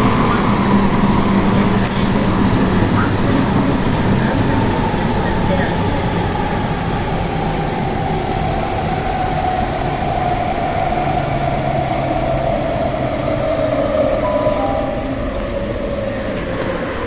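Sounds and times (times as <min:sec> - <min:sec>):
train wheels rumbling on rail: 0:00.0 - 0:17.0
train whine: 0:00.0 - 0:17.0.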